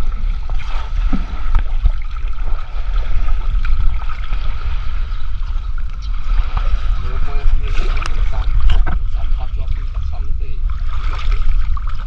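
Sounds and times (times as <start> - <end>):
heavy low rumble: 0.0 - 12.0
water sloshing and gurgling: 0.0 - 12.0.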